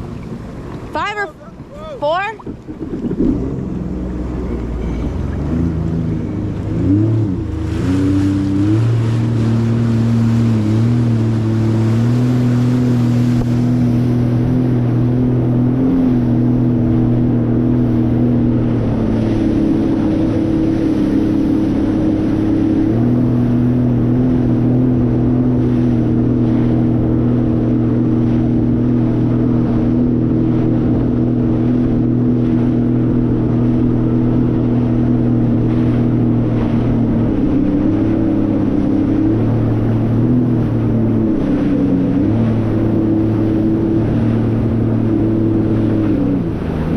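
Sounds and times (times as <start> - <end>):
jet ski engine: 0.0 - 46.9
rush of wind and water: 0.0 - 46.9.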